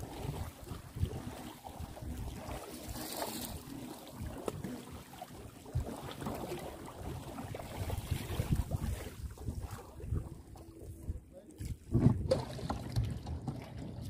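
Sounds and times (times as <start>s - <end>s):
wind rumbling on microphone: 0.0s - 4.4s, 5.6s - 14.0s
water splash: 0.0s - 10.1s, 11.6s - 14.0s
water sloshing around canoe: 0.0s - 14.0s.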